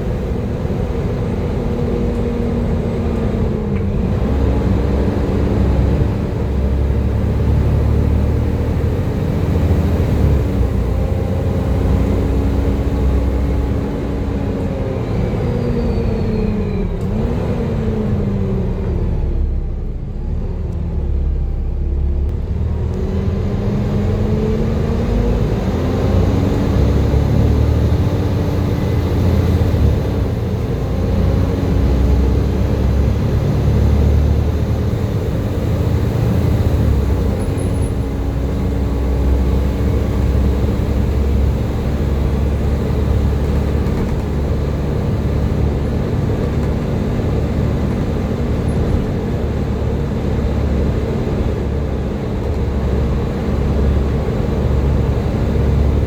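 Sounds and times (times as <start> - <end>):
bus engine and driveline whining: 0.0 - 56.0.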